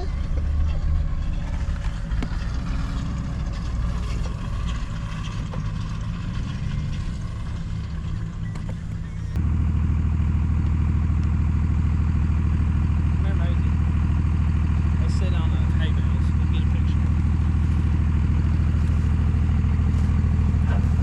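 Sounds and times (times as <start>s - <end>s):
deep steady hum: 0.0s - 21.0s
tractor engine running: 0.0s - 21.0s.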